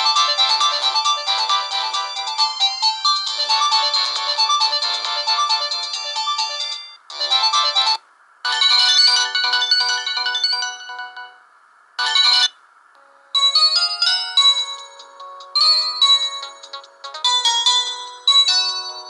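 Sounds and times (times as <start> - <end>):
polyphonic ringtone melody: 0.0 - 11.4, 12.0 - 19.0.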